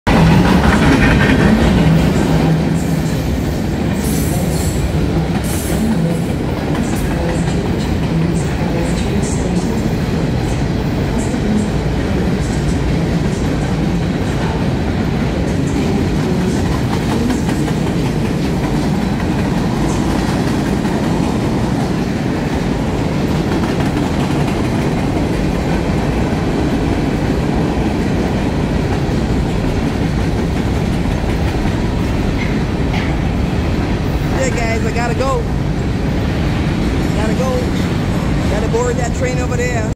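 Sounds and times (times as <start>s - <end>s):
train wheels on rails: 0.1s - 39.9s.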